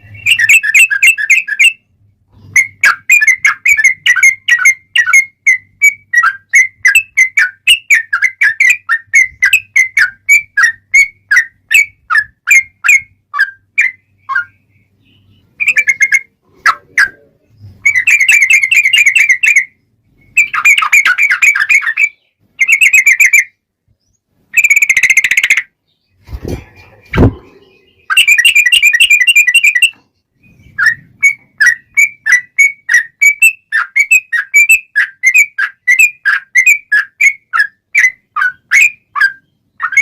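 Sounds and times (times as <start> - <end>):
bird chirping notes: 0.0 - 40.0.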